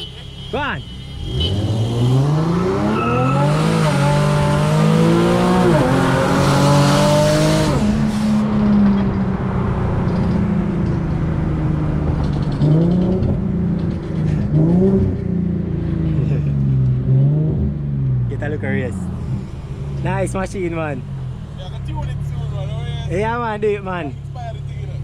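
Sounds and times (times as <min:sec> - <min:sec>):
car engine accelerating with upshifts: 0:01.2 - 0:23.8.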